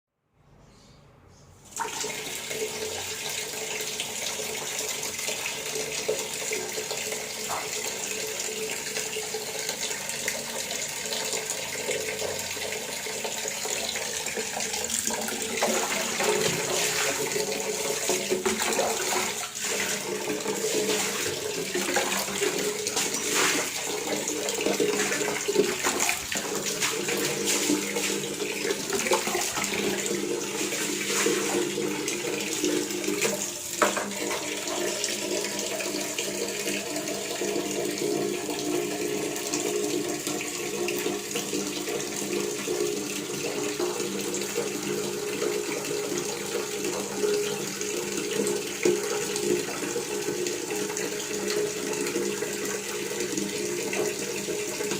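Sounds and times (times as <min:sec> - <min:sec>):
tap water running: 0:01.6 - 0:54.9.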